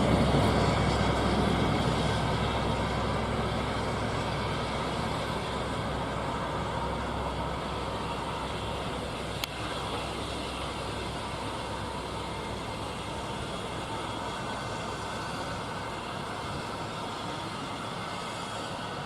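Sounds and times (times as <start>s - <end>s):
passing train rumble: 0.0s - 19.0s.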